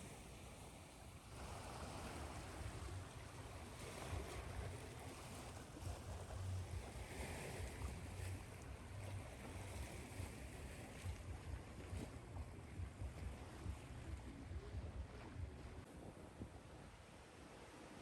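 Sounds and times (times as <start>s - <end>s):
ocean surf on shore: 0.0s - 18.0s.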